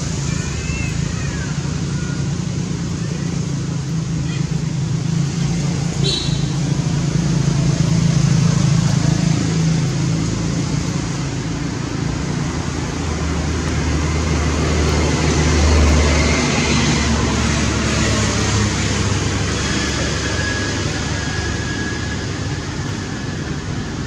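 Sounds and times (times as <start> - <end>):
steady rushing noise: 0.0 - 24.0
vehicle engine running: 0.0 - 24.0.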